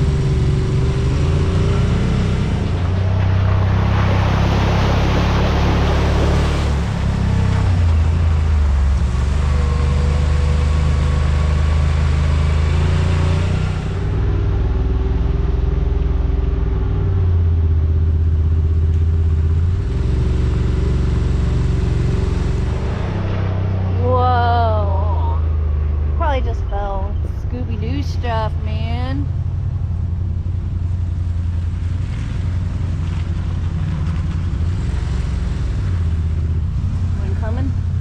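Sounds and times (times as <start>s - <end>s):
vehicle engine low drone: 0.0s - 38.0s.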